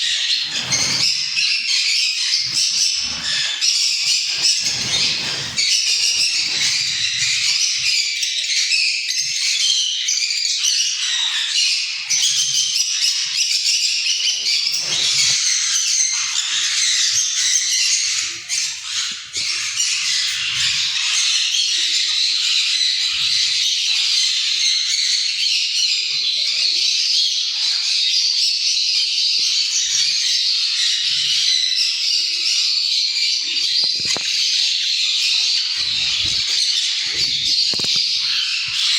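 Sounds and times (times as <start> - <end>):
parrots chattering and squawking: 0.0 - 25.5, 29.8 - 38.9.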